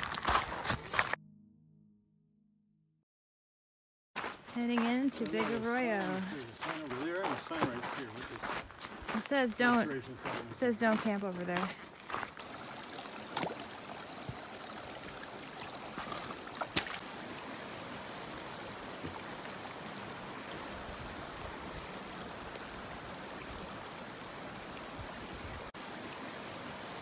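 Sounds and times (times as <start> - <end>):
creek water rushing: 4.8 - 27.0.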